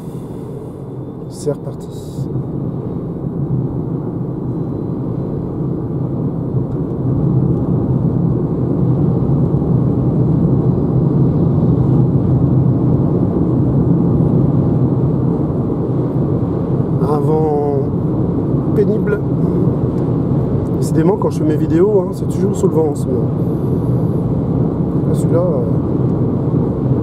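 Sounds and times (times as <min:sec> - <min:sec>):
car road noise: 0:00.0 - 0:27.0
strong wind noise: 0:02.2 - 0:27.0.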